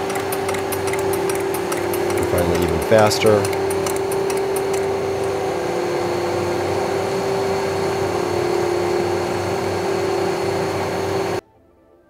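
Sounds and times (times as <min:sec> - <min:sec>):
planer machine drone with whine: 0:00.0 - 0:11.4.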